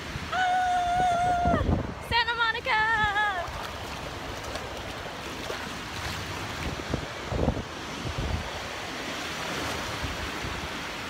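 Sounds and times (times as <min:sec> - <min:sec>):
wind buffeting microphone: 0:00.0 - 0:10.8
ocean waves breaking: 0:00.0 - 0:11.0.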